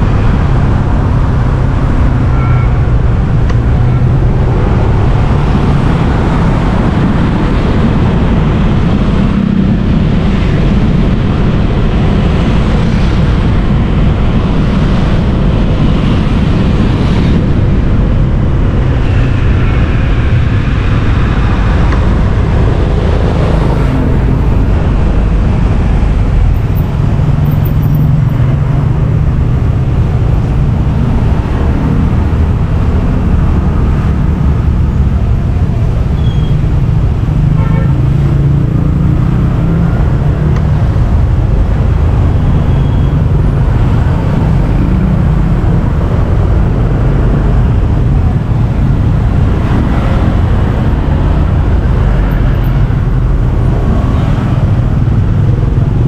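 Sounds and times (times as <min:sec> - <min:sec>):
low engine drone: 0:00.0 - 0:56.0
road and traffic noise: 0:00.0 - 0:56.0.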